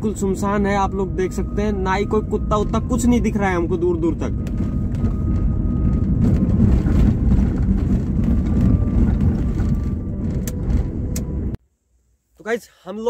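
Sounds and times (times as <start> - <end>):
car engine and road noise: 0.0 - 11.6.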